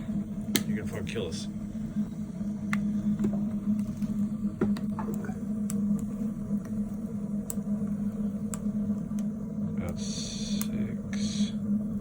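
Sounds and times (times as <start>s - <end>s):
burning wood crackling: 0.0s - 12.0s
stove drafting low hum: 0.0s - 12.0s.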